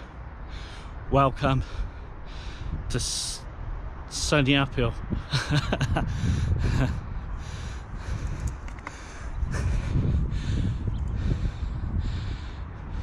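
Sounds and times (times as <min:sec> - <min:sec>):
wind gusting across microphone: 0:00.6 - 0:13.0.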